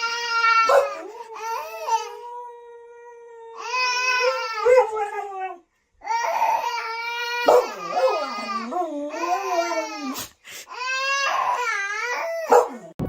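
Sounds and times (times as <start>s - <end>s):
dog howling and whining: 0.0s - 10.2s, 11.0s - 13.0s.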